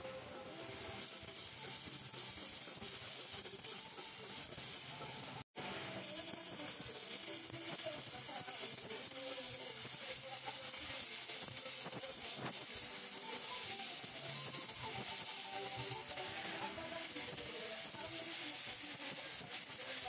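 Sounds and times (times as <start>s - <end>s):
welding torch flame hissing: 0.0s - 20.0s.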